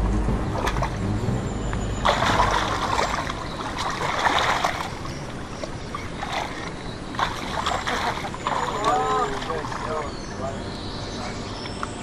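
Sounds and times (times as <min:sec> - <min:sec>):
low engine hum: 0:00.0 - 0:12.0
water sloshing and lapping: 0:00.0 - 0:12.0.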